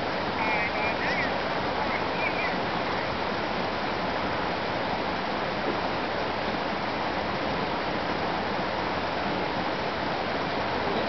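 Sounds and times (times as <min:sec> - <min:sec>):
mountain creek water rushing: 0:00.0 - 0:11.0.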